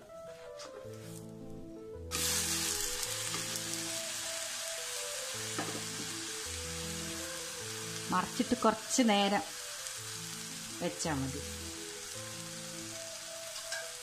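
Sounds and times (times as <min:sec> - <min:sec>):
background music: 0:00.0 - 0:14.0
pancake sizzling in oil: 0:02.1 - 0:14.0.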